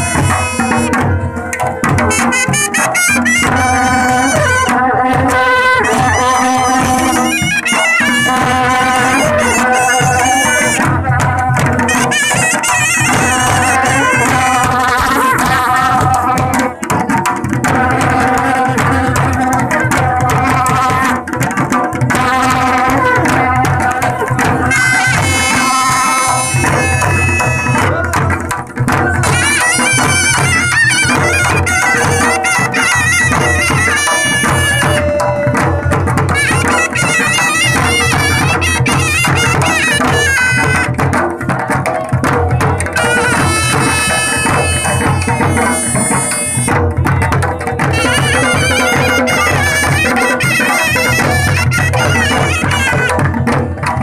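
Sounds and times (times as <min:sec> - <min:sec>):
reedy wind instrument melody: 0:00.0 - 0:16.8, 0:22.1 - 0:41.1, 0:42.5 - 0:47.2, 0:47.8 - 0:53.8
steady drumming: 0:00.0 - 0:54.0.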